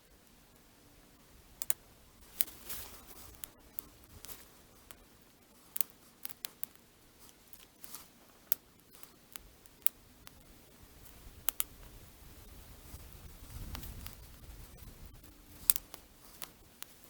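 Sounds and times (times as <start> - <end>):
campfire crackling: 0.0 - 17.0
sharp snaps and pops: 0.0 - 17.0.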